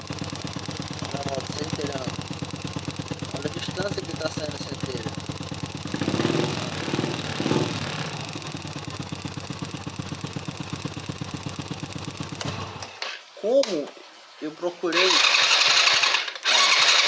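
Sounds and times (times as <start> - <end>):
small motorcycle engine idling: 0.0 - 12.9, 15.0 - 17.0.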